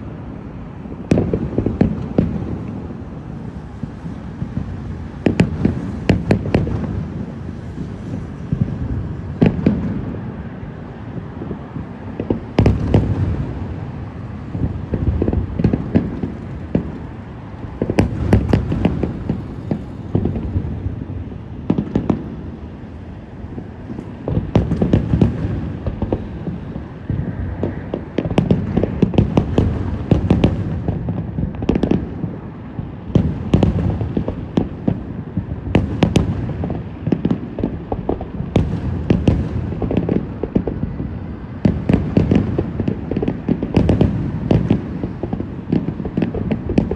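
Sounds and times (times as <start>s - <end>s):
fireworks bursting bangs: 0.0s - 46.9s.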